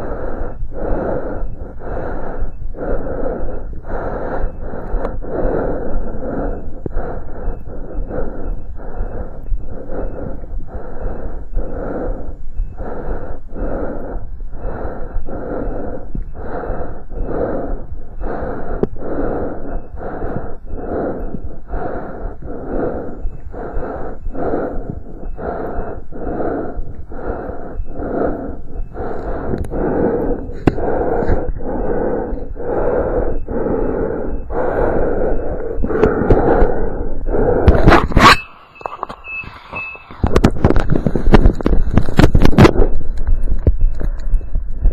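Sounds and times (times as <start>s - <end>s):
rushing heartbeat pulses: 0.0s - 44.9s
steady low hum: 0.0s - 44.9s.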